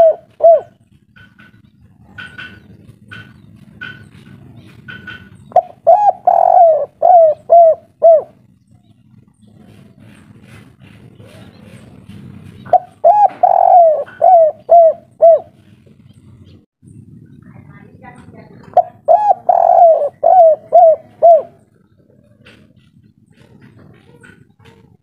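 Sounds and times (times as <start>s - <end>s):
dove cooing: 0.0s - 16.6s, 18.2s - 25.0s
small bird chirps: 0.0s - 25.0s.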